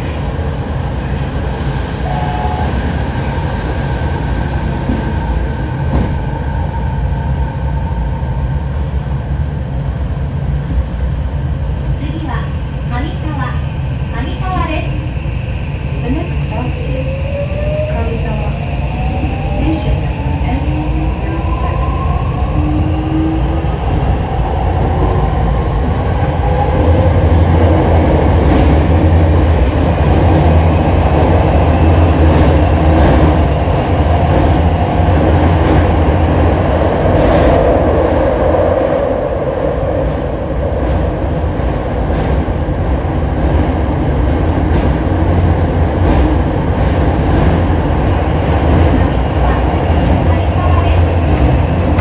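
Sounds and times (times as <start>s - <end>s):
train wheels and motors rumbling: 0.0s - 52.0s.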